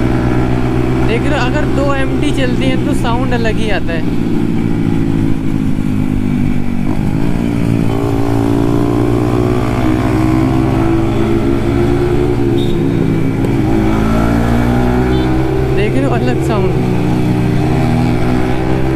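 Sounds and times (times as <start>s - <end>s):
motorcycle engines running: 0.0s - 18.9s.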